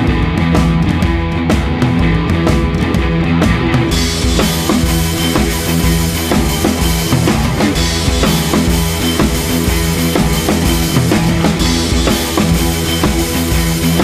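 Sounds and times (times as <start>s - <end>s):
bass line: 0.0s - 14.0s
drum kit beat: 0.0s - 14.0s.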